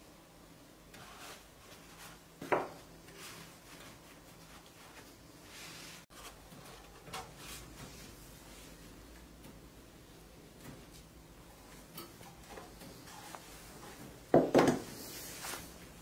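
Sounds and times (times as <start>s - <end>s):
tea towel rustling: 1.1s - 9.1s, 10.6s - 16.0s.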